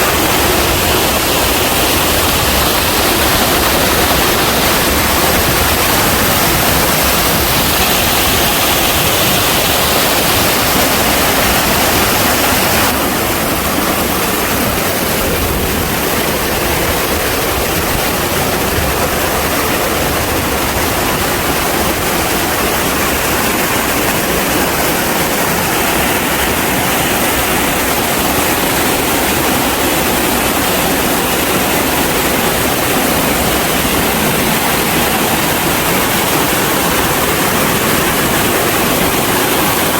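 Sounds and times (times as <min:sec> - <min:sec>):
rushing stream and waterfall: 0:00.0 - 0:39.9.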